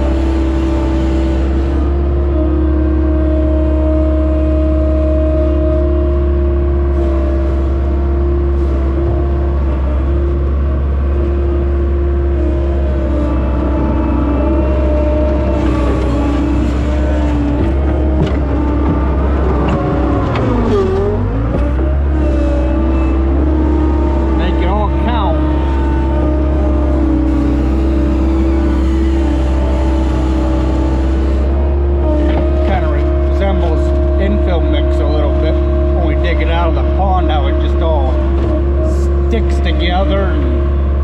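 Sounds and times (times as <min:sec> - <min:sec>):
diesel engine running at high revs: 0:00.0 - 0:41.0.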